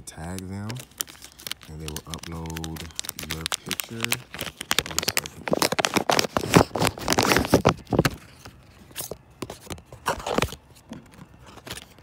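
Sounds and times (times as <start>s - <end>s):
rummaging handling noise: 0.1s - 12.0s.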